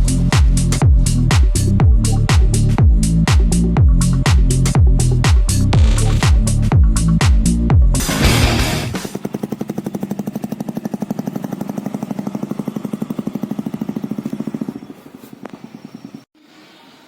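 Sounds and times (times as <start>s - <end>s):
motorcycle engine idling: 0.0s - 16.3s.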